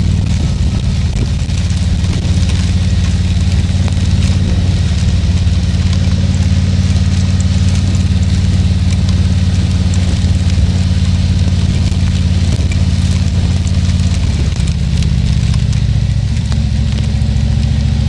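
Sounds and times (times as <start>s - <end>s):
motorcycle engine running: 0.0s - 18.0s
rain ticking on helmet: 0.0s - 18.0s.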